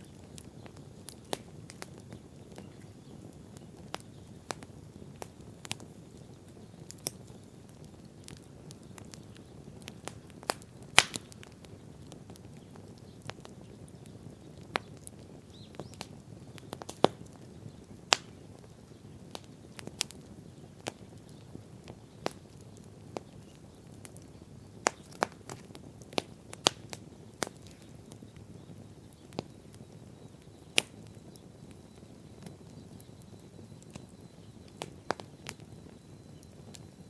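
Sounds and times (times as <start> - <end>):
bonfire crackling and popping: 0.0 - 37.0
flames roaring low: 0.0 - 37.0.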